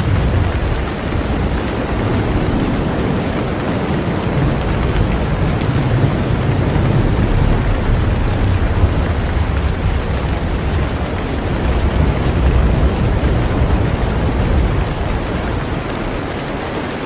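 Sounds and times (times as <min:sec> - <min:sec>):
heavy rain on a boat: 0:00.0 - 0:17.0.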